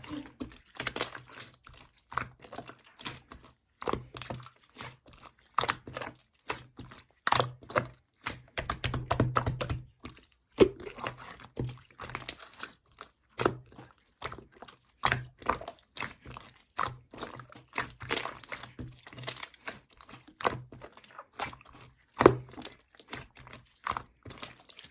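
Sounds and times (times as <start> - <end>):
slime squelching: 0.0 - 24.9.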